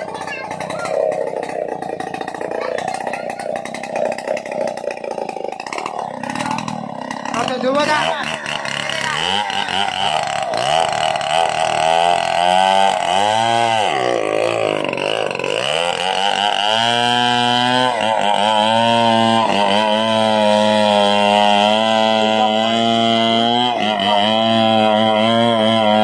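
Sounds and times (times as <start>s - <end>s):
chainsaw engine revving: 0.0s - 26.0s.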